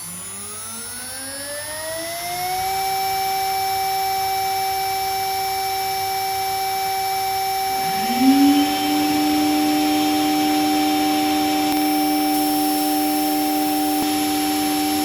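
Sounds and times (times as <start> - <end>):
router spindle whine spinning up: 0.0 - 15.0.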